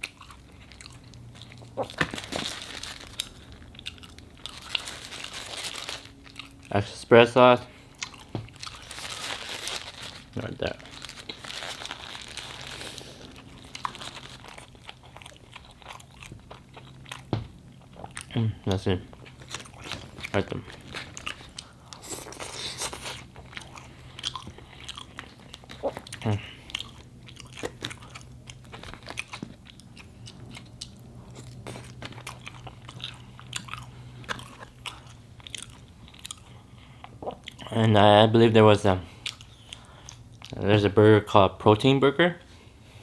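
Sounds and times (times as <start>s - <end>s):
person chewing crisp food: 0.0s - 6.9s, 7.7s - 37.8s, 39.1s - 40.6s.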